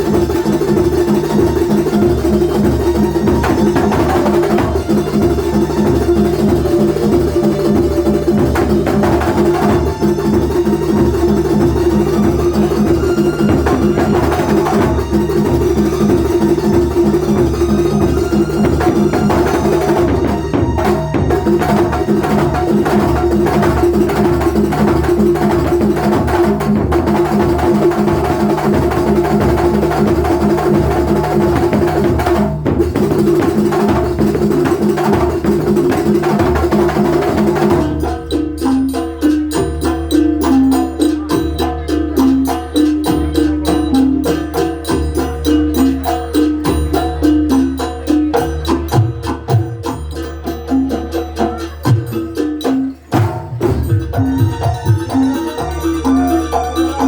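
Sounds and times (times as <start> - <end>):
fast traditional drum music: 0.0 - 57.0.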